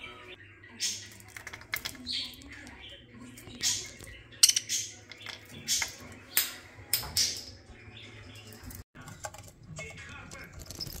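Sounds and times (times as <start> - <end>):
budgies pecking and gnawing: 0.6 - 6.6, 7.2 - 11.0.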